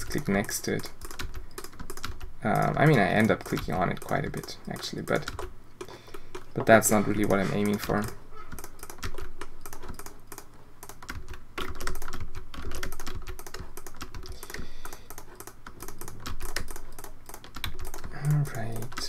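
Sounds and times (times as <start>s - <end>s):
computer mouse clicks: 0.1s - 18.1s
keyboard key presses: 0.1s - 19.0s.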